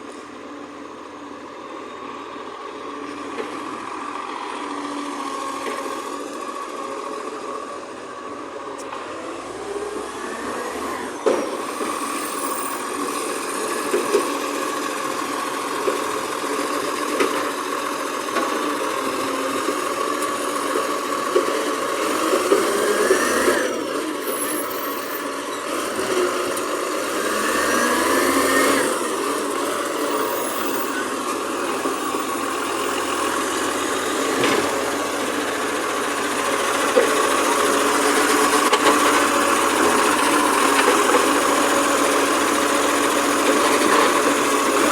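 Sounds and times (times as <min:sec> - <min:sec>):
garbage truck engine revving: 0:03.4 - 0:44.9.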